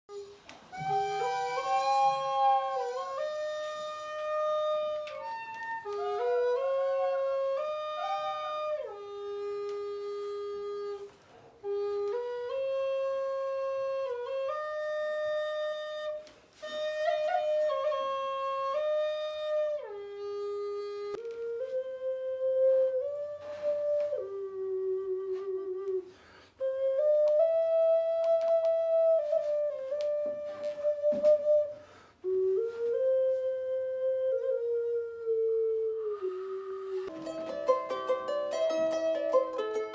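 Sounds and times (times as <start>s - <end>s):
flute playing slow melody: 0.1s - 39.9s.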